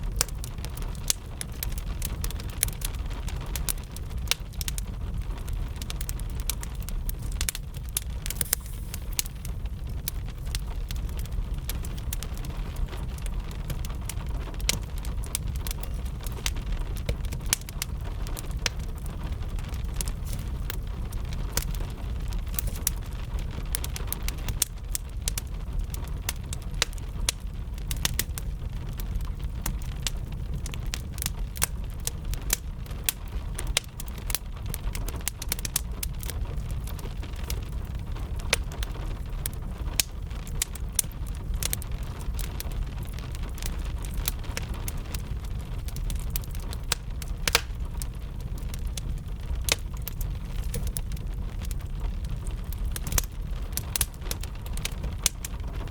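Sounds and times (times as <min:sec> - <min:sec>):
constant low rumble: 0:00.0 - 0:55.9
fire crackling and popping: 0:00.0 - 0:55.9
steady rain: 0:00.0 - 0:55.9.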